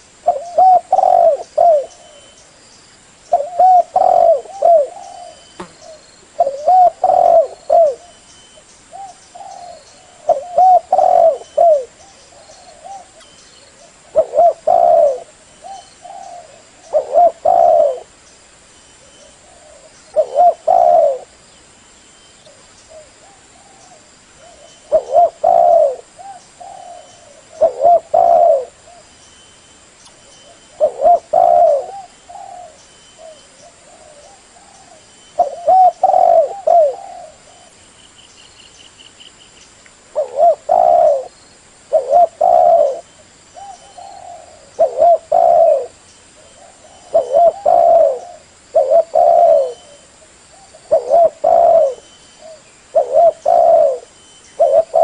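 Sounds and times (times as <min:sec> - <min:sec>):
dove cooing: 0:00.2 - 0:02.4, 0:03.3 - 0:08.2, 0:08.9 - 0:18.1, 0:19.0 - 0:21.4, 0:22.5 - 0:29.1, 0:30.4 - 0:37.8, 0:40.1 - 0:41.3, 0:41.9 - 0:55.0.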